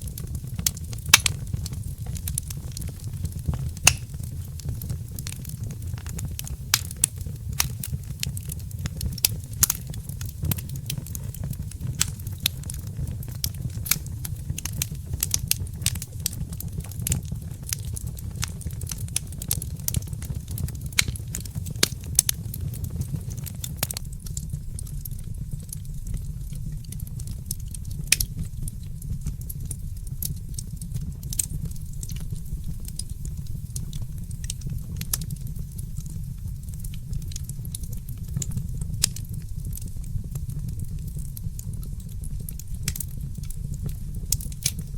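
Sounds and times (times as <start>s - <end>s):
fire popping and snapping: 0.0s - 44.9s
wood fire crackling: 0.0s - 44.9s.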